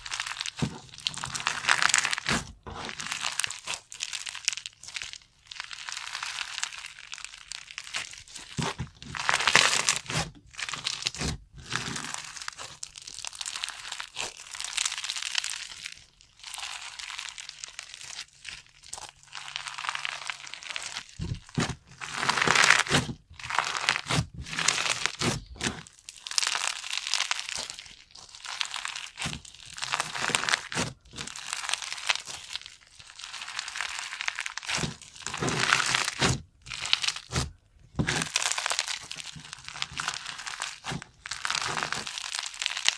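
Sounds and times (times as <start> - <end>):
slime crackling in hands: 0.0 - 42.9.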